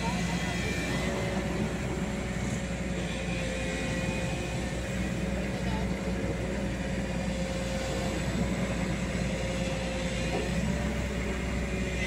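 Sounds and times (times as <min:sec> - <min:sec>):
diesel engines droning: 0:00.0 - 0:12.0.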